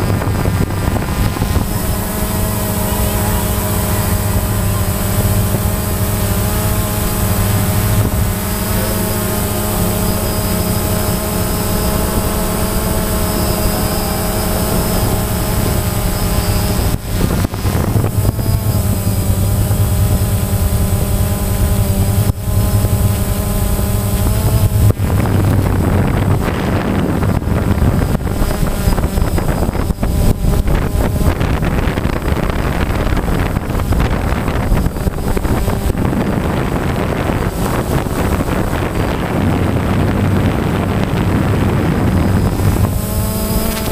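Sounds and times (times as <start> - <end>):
air buffeting the microphone: 0.0 - 43.9
drone propellers whining: 0.0 - 43.9.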